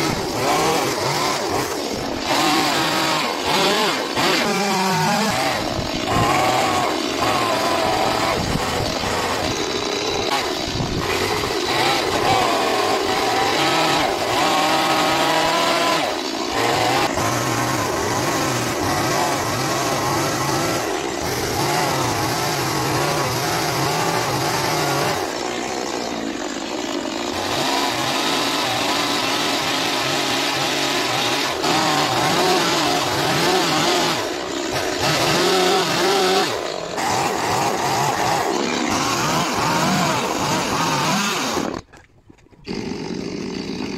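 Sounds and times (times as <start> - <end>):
chainsaw cutting into wood: 0.0 - 43.9.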